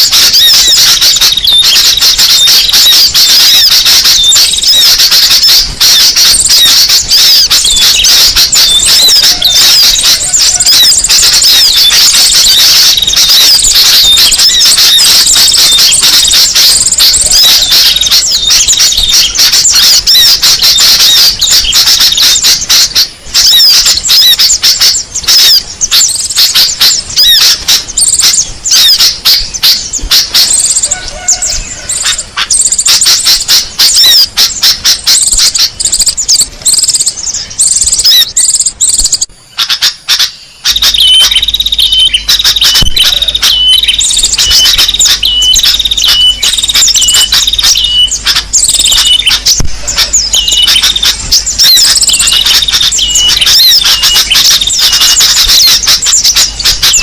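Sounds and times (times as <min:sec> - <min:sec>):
short high bird call: 0:00.0 - 0:57.0
songbirds chirping and twittering: 0:00.0 - 0:57.0.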